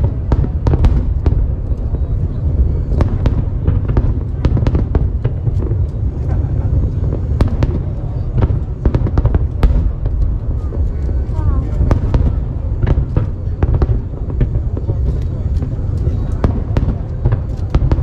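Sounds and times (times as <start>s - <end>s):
firework bangs and crackles: 0.0s - 18.0s
low rumble: 0.0s - 18.0s.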